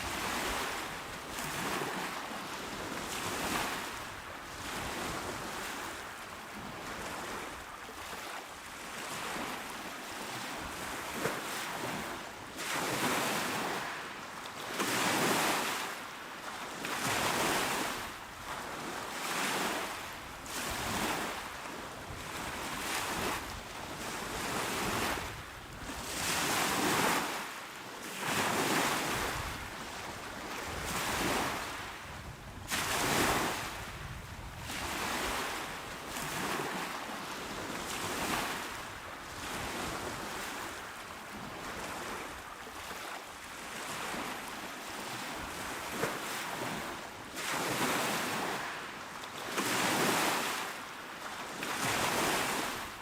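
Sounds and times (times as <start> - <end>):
small waves breaking on shore: 0.0 - 53.0.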